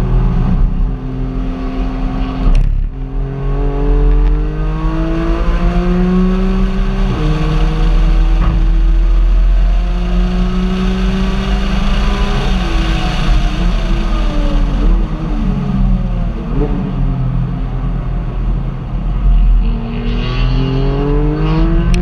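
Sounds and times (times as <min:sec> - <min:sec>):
car engine accelerating: 0:00.0 - 0:22.0
deep road rumble: 0:00.0 - 0:22.0.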